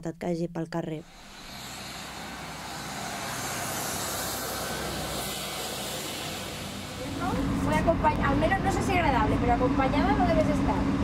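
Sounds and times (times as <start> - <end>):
vehicle engine and tyre noise: 1.1 - 11.0.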